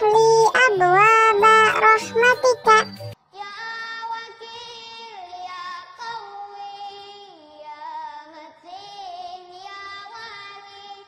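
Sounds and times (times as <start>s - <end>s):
wordless singing with vibrato: 0.0s - 11.0s.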